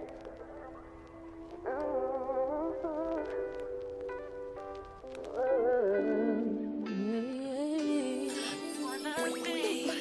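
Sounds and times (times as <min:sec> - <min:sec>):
r and b music with singing: 0:00.0 - 0:10.0.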